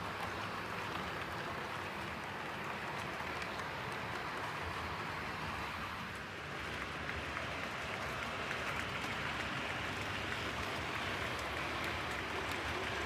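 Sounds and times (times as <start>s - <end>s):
model locomotive rolling: 0.0s - 13.0s.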